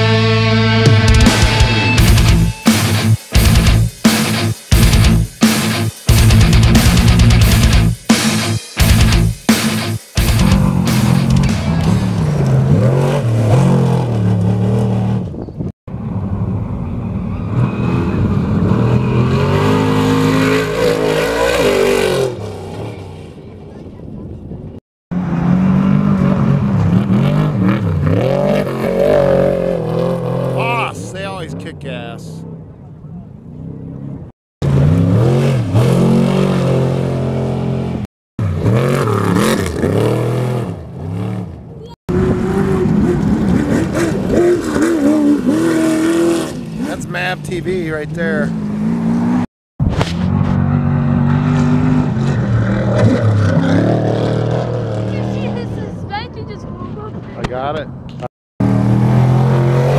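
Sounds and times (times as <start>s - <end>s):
truck engines accelerating: 10.2s - 59.9s.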